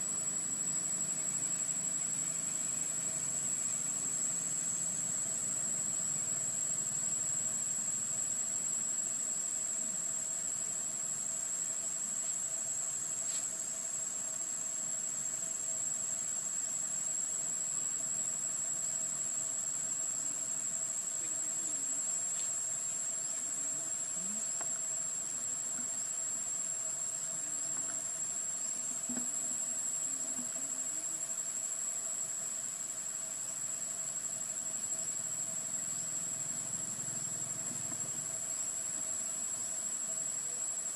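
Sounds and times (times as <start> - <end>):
insects shrill drone: 0.0 - 40.9.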